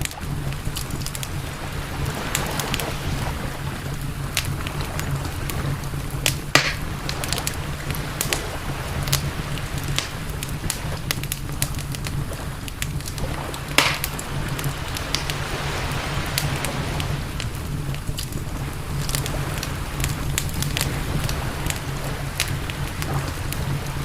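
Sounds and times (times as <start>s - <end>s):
fire snapping: 0.0s - 24.0s
low rumble: 0.0s - 24.0s
wood campfire crackling: 0.0s - 24.0s.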